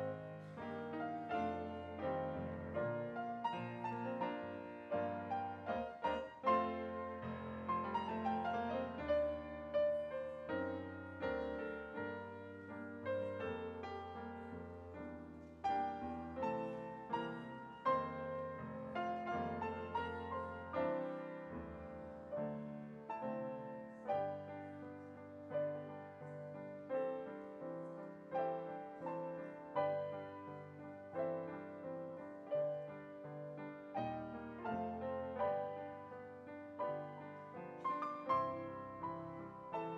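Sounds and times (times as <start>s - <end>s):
slow gentle piano piece: 0.0s - 39.9s.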